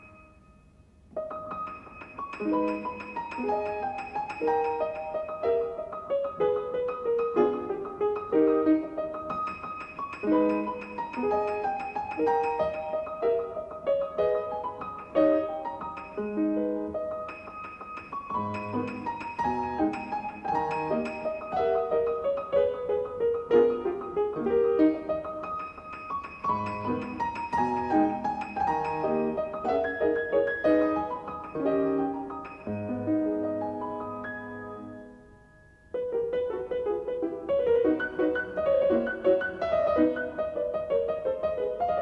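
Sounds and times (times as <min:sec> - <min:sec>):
solo piano music: 0:00.0 - 0:42.0.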